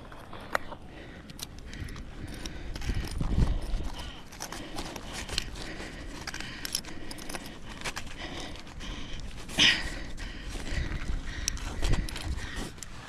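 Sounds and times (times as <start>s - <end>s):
metallic clinks of climbing gear: 0.0s - 13.0s.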